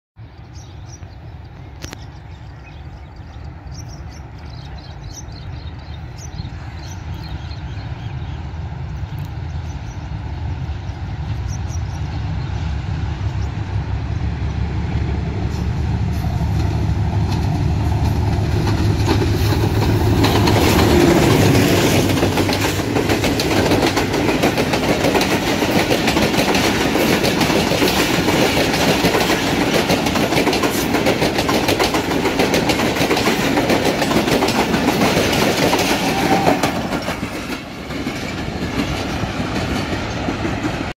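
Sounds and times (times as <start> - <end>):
locomotive engine rumble: 0.4 - 40.9
train wheels clattering on track: 3.2 - 40.9.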